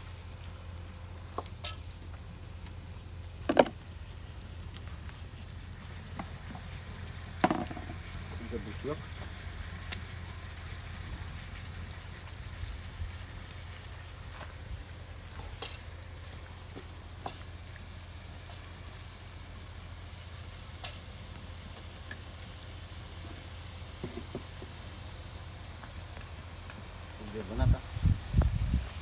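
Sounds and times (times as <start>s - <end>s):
food sizzling in a cauldron: 0.0s - 29.0s
wood fire crackles: 0.0s - 29.0s.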